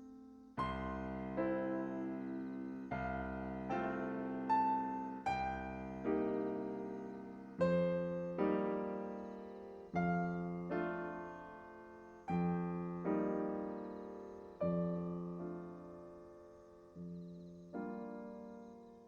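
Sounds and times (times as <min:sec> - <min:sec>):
gentle piano chords: 0:00.0 - 0:19.0.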